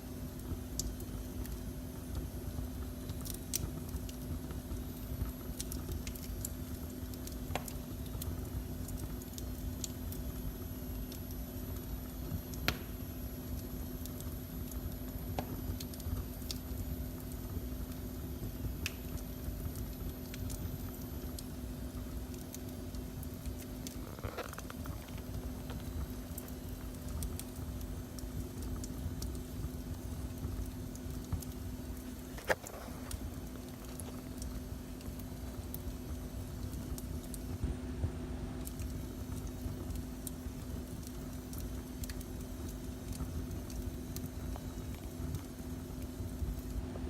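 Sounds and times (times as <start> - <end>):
low rumble and hum: 0.0 - 47.0
wood fire crackling and popping: 0.0 - 47.0.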